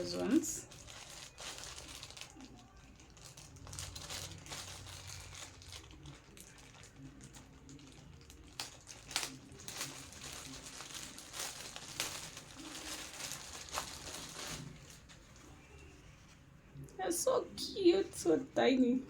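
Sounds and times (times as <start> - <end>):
packaging crinkling: 0.0 - 15.9.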